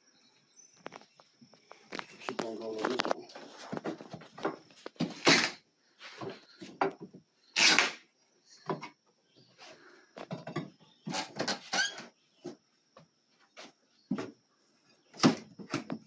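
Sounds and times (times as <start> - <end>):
knocks and creaks of wood and nails: 0.8 - 8.0, 8.6 - 14.4, 15.1 - 16.0.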